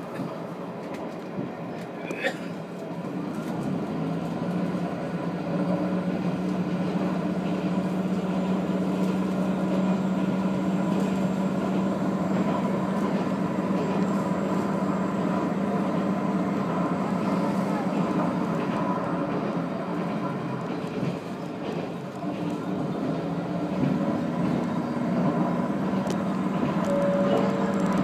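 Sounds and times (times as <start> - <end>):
railcar engine drone: 0.0 - 28.0
wheels on rail: 0.0 - 28.0.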